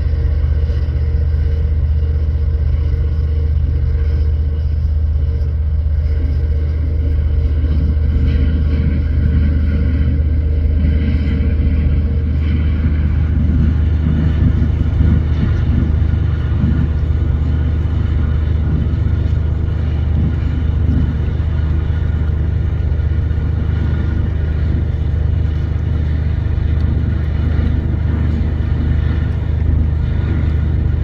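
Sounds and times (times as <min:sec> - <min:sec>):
boat diesel engine droning: 0:00.0 - 0:31.0.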